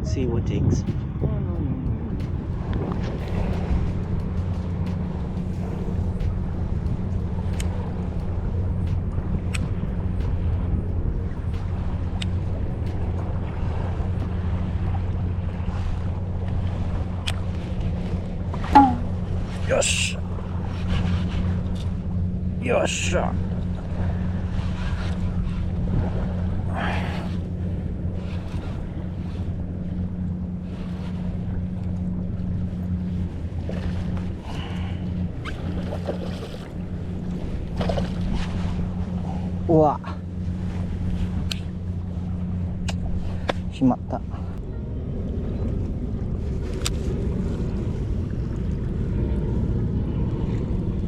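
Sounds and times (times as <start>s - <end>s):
low droning hum: 0.0s - 51.0s
wind blowing across microphone: 0.0s - 51.0s.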